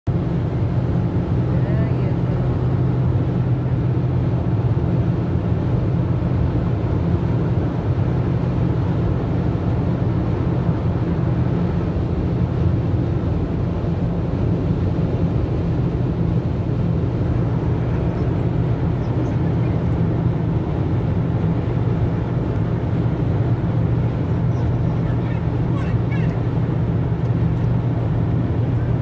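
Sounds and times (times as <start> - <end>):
car road noise rumble: 0.1 - 29.0.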